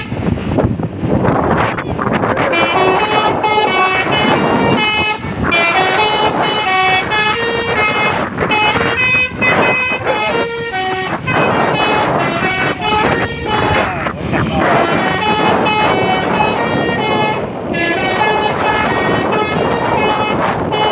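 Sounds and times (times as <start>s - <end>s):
musical air horn playing a tune: 0.0s - 0.3s, 2.2s - 20.9s
traffic noise: 0.0s - 20.9s.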